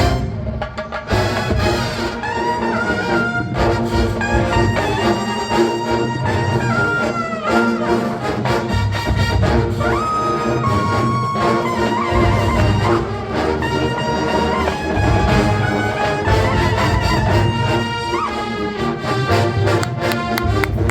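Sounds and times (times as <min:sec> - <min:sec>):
marching band playing funk: 0:00.0 - 0:20.9.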